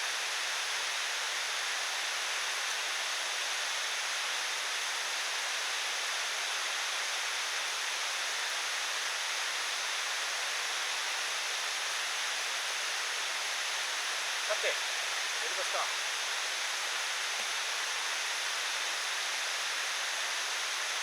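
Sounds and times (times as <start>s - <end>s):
steady rushing hiss: 2.9s - 21.0s.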